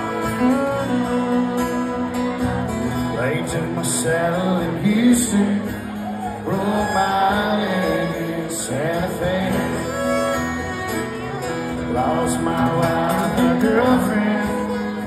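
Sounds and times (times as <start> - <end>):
fiddle: 0.0 - 15.0
strummed acoustic guitars: 0.0 - 15.0.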